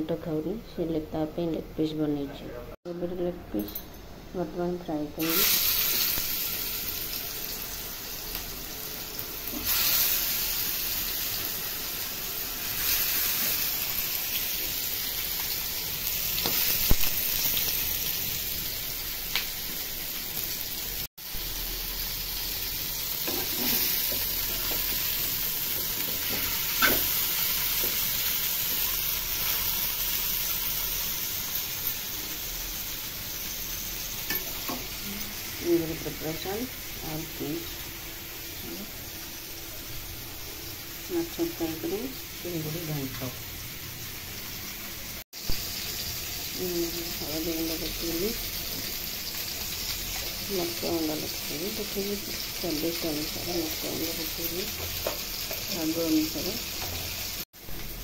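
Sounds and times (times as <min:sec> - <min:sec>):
chicken sizzling in hot oil: 0:05.2 - 0:58.0.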